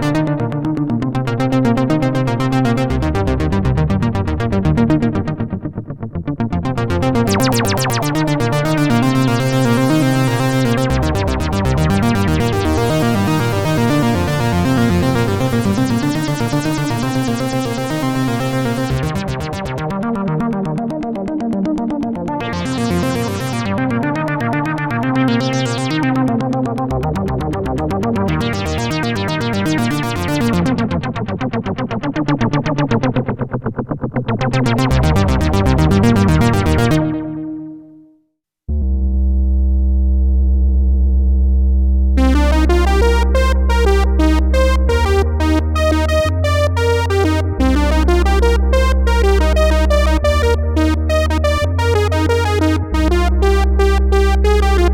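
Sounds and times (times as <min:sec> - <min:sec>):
synthesizer sequenced pattern: 0:00.0 - 0:37.9, 0:42.2 - 0:54.9.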